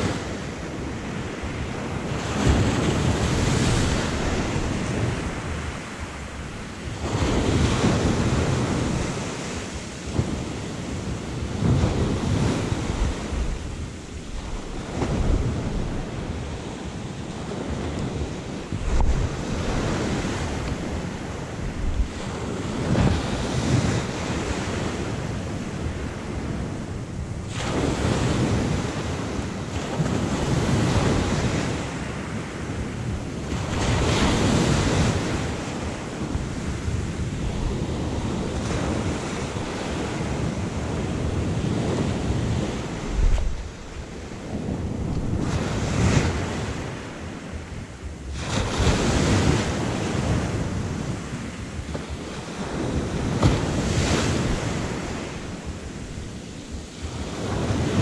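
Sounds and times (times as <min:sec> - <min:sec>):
sea surf washing in: 0:00.0 - 0:58.0
wind gusting on microphone: 0:00.0 - 0:58.0.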